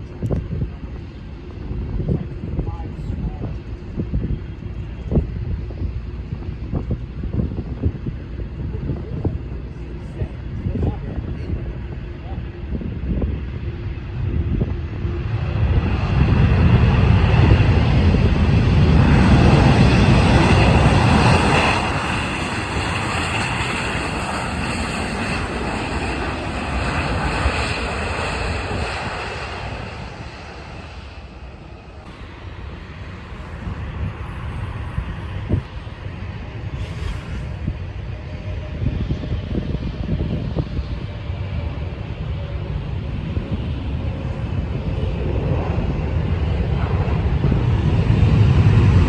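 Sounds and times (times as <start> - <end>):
high jet engine whine: 0.0 - 49.0
jet airliner passing low: 0.0 - 49.0.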